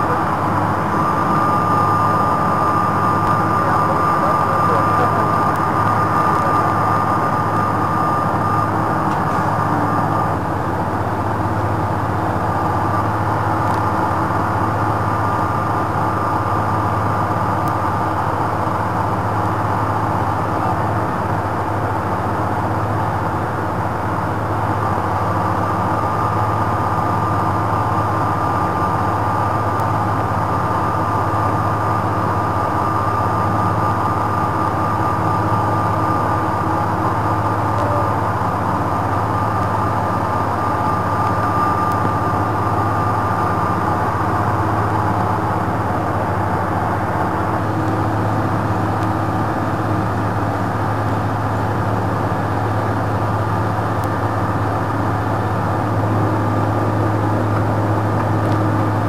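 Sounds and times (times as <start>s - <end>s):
drilling rig machinery drone: 0.0s - 59.0s
thin high whine: 0.0s - 59.0s.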